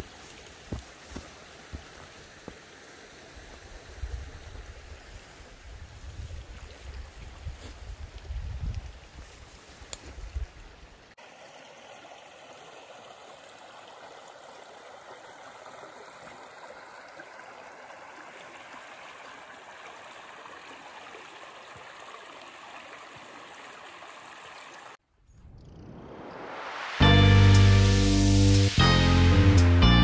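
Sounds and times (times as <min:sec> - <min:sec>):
stream water over stones: 0:00.0 - 0:25.0.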